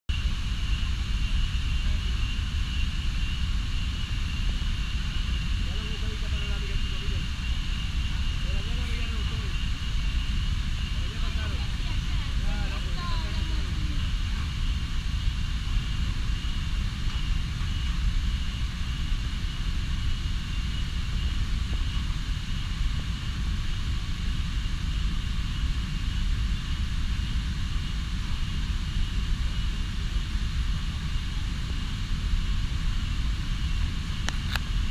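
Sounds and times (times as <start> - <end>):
distant waterfall rumble: 0.1 - 34.9
insects droning: 0.1 - 34.9.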